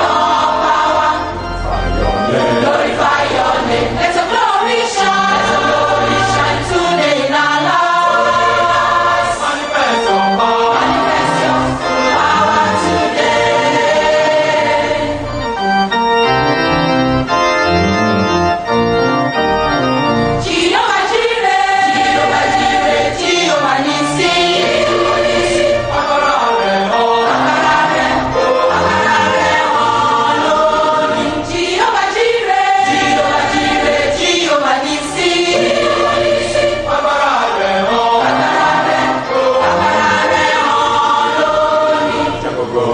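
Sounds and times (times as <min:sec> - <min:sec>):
gospel choir singing: 0:00.0 - 0:15.9, 0:20.3 - 0:42.9
organ accompaniment: 0:00.0 - 0:42.9.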